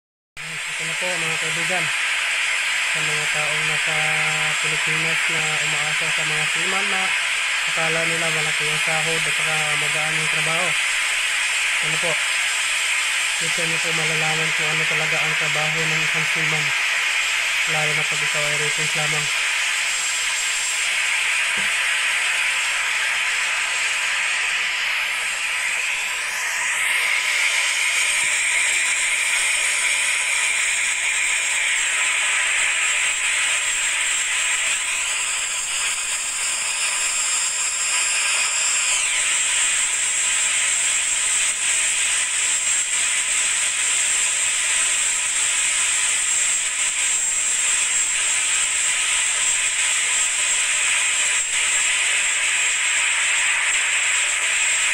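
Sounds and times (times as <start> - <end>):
ship machinery hissing: 0.4 - 54.9
thin high whine: 0.4 - 54.9.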